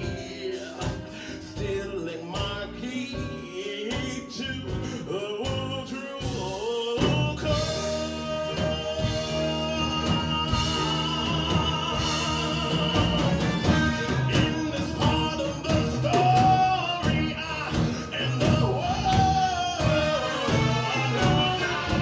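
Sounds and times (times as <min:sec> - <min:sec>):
live band with singers: 0:00.0 - 0:22.0.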